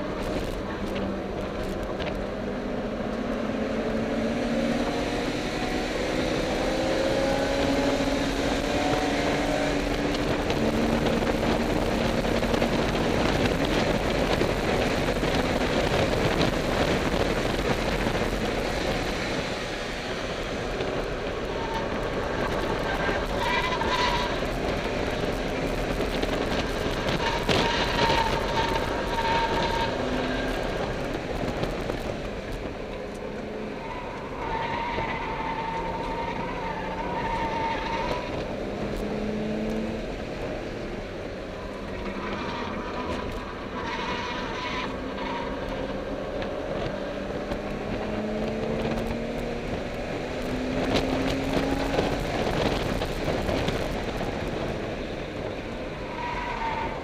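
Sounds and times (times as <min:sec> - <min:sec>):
car engine accelerating: 0:00.0 - 0:57.0
road and wind noise: 0:00.0 - 0:57.0.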